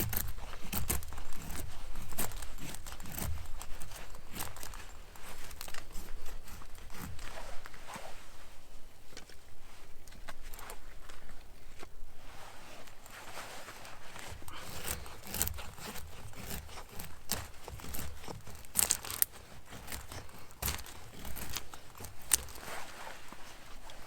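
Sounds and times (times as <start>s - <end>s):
rustling and crackling: 0.0s - 24.0s.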